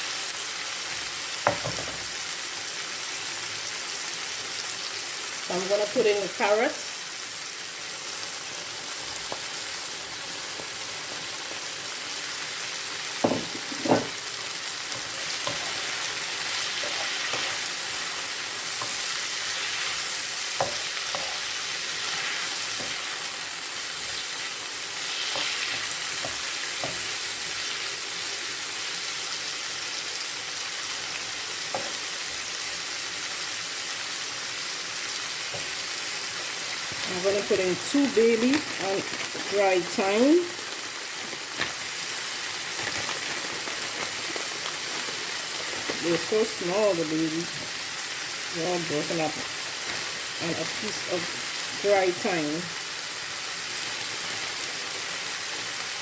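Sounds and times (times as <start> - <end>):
vegetables sizzling in hot oil: 0.0 - 56.0.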